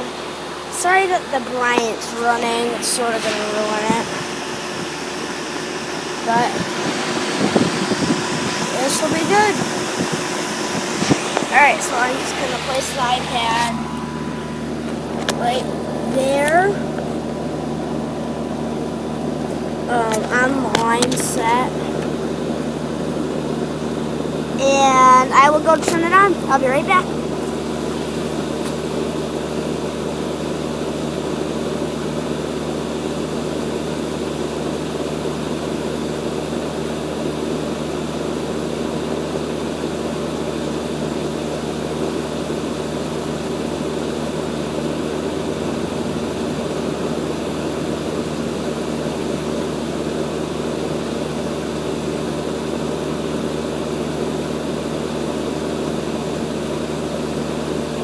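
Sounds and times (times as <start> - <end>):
air conditioner unit humming: 0.0 - 58.0.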